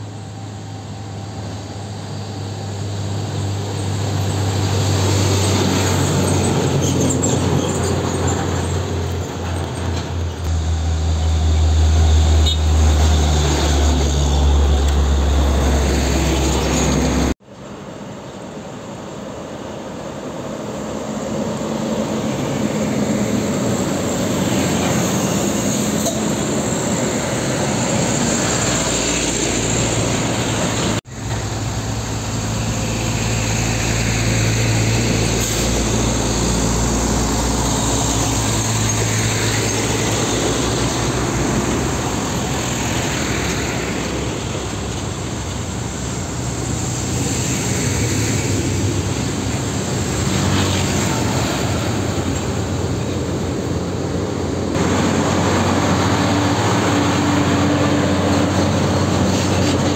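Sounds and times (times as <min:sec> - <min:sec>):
diesel trucks climbing under load: 0:00.0 - 0:17.8, 0:19.4 - 0:59.9.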